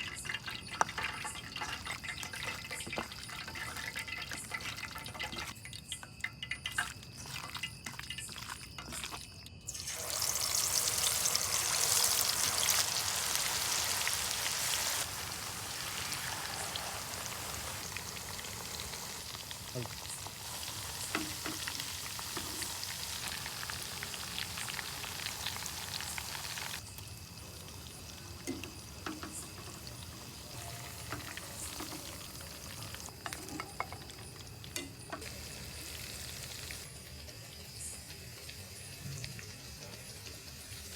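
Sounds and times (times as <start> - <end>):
deep-frying sizzle: 0.0 - 40.9.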